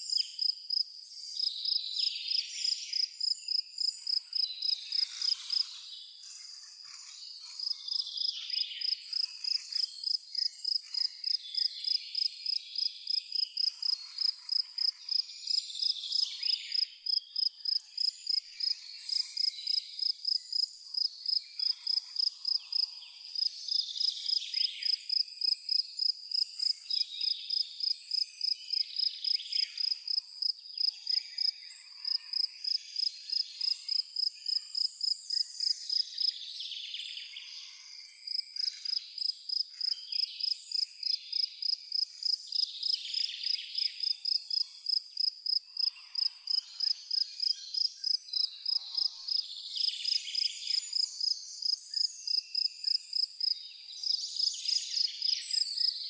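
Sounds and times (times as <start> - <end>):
cricket chirping: 0.0 - 36.6, 37.6 - 56.0.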